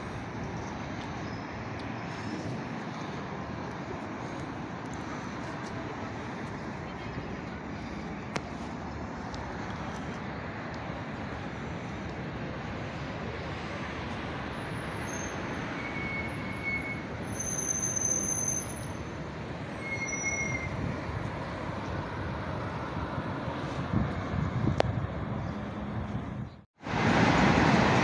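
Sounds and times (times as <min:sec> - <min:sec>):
hum of passing cars: 0:00.0 - 0:28.0.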